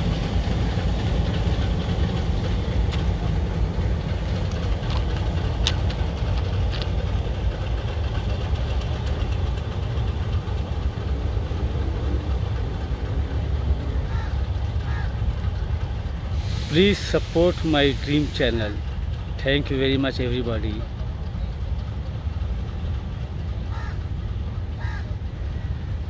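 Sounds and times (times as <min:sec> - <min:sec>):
diesel locomotive engine rumbling: 0:00.0 - 0:26.0.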